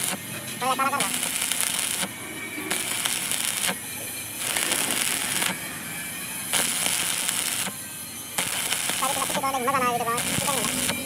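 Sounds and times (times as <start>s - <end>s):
welding arc crackling and sizzling: 0.0s - 11.0s.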